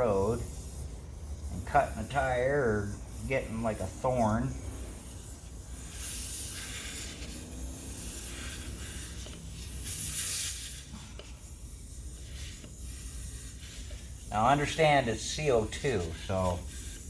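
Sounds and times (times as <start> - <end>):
air hissing out of tire valve: 0.0 - 17.0.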